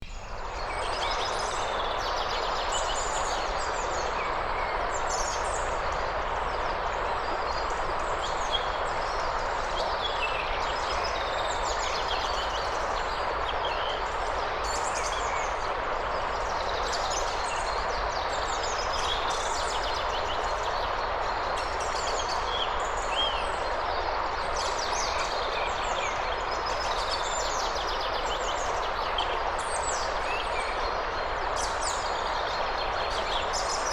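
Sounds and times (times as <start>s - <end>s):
flowing water rushing: 0.1s - 33.9s.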